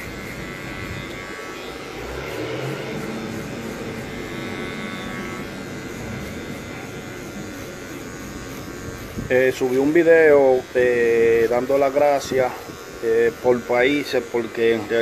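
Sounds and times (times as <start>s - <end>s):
electric hair clipper running: 0.0s - 15.0s.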